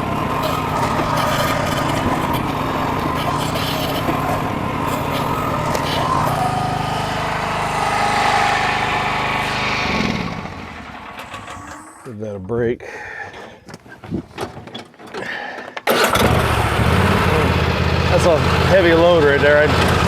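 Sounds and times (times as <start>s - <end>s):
small engine running: 0.0s - 12.1s, 15.9s - 20.0s.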